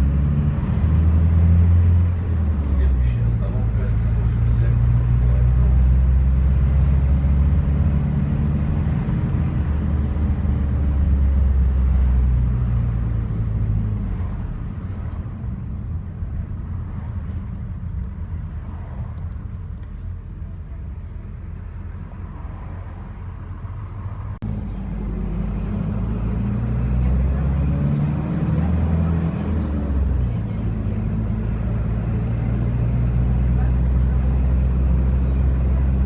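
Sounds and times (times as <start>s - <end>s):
bus engine drone: 0.0s - 36.0s
road and running noise: 0.0s - 36.0s.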